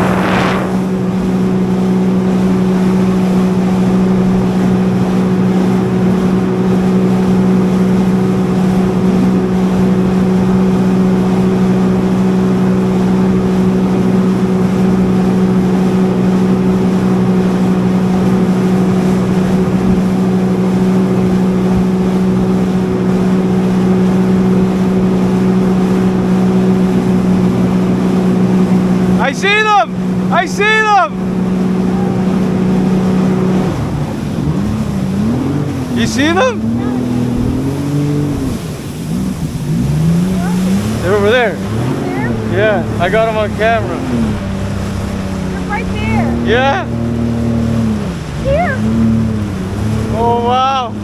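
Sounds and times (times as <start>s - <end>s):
jet ski engine droning: 0.0s - 51.0s.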